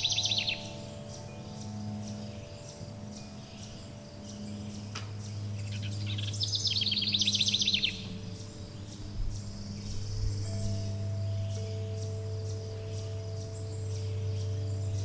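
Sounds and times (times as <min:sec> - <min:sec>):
low ringing tones: 0:00.0 - 0:15.0
wild birds singing: 0:00.0 - 0:15.0.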